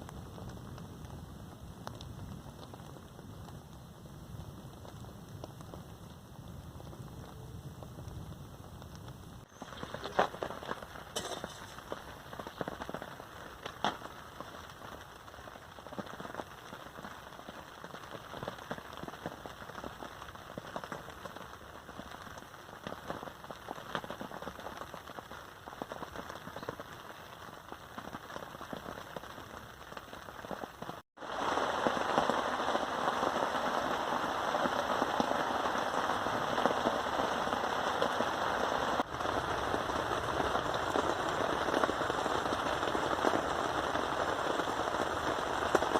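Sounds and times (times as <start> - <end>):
rain drops hitting: 0.0 - 45.9.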